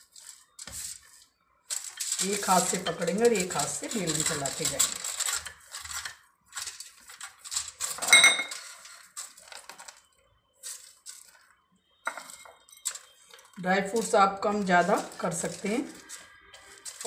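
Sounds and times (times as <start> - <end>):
foil crinkling and rustling: 0.0 - 17.0.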